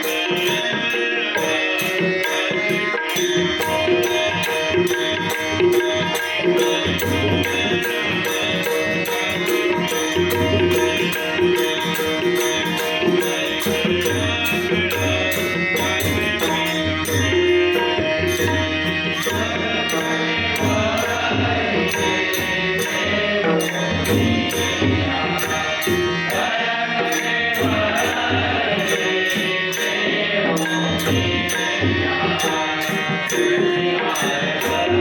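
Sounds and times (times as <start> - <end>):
steady held tones: 0.0 - 29.4
hand drums playing: 0.0 - 35.0.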